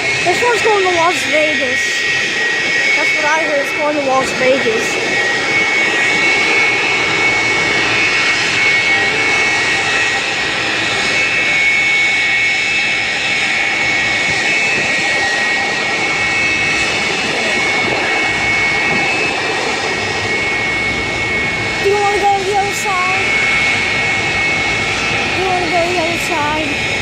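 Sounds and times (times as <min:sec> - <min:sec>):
jet engines roaring with whine: 0:00.0 - 0:27.0.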